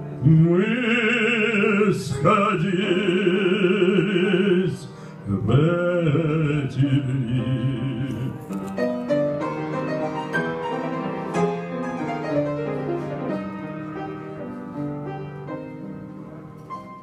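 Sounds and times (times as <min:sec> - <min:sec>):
solo piano: 0:00.0 - 0:17.0.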